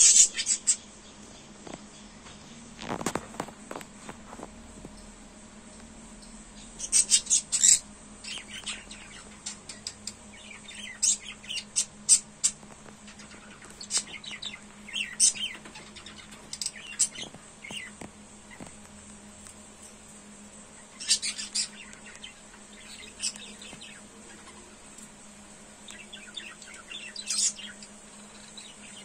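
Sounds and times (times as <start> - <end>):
lovebirds chirping: 0.0 - 4.2, 6.1 - 29.0.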